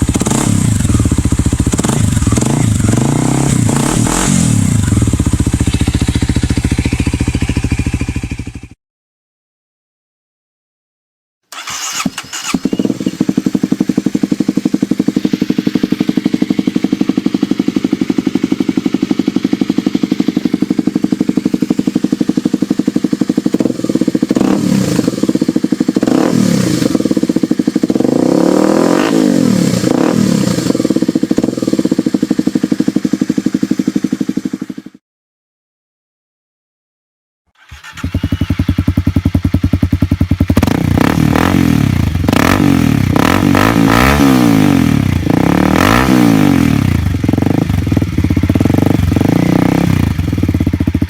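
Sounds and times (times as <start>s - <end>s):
engine idling and revving: 0.0s - 8.8s, 11.6s - 35.0s, 37.6s - 51.0s.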